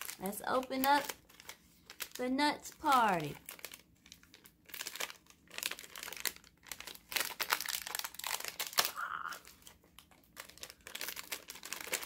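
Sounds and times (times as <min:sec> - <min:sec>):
plastic snack packet crackling: 0:00.0 - 0:12.0.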